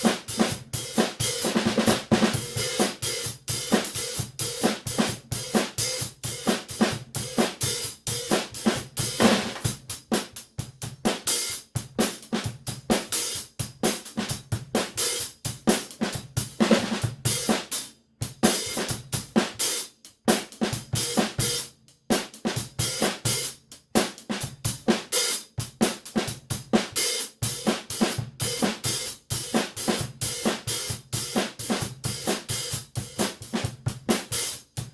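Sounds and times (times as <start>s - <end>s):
drum kit groove: 0.0s - 34.9s.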